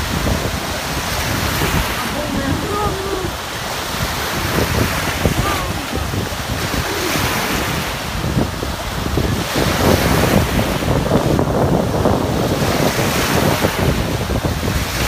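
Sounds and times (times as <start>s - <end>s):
surf breaking: 0.0s - 15.0s
wind buffeting microphone: 0.0s - 15.0s.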